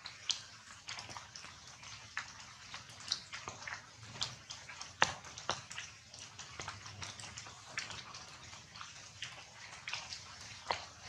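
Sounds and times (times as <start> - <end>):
rainwater dripping on leaves: 0.0 - 11.0.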